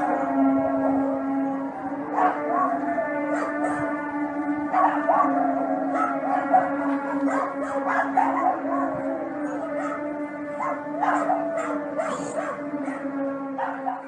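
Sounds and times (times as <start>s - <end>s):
dogs barking and howling: 0.0s - 14.0s.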